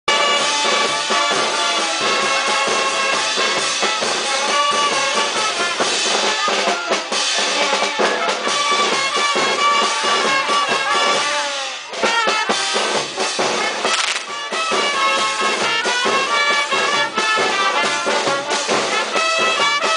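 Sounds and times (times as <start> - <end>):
band music with drums: 0.1 - 19.9.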